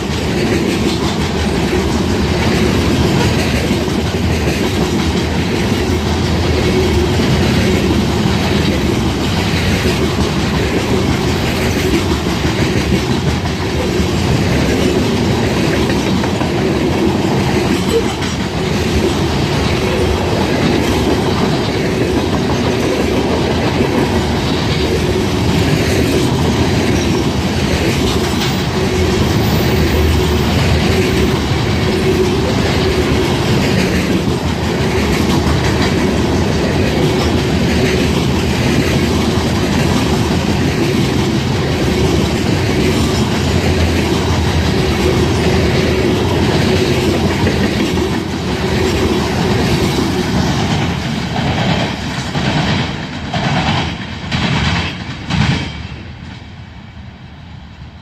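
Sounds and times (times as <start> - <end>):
freight train wheels clacking: 0.0 - 57.0
train rumble: 0.0 - 58.0.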